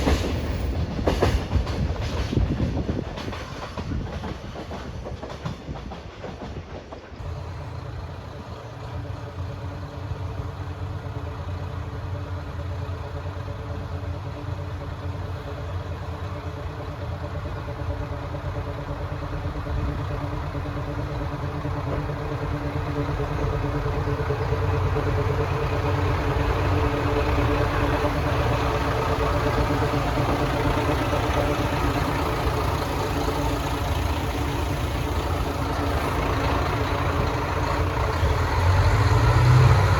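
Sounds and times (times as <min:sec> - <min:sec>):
diesel train engine humming: 0:00.0 - 0:06.2, 0:07.0 - 0:39.9.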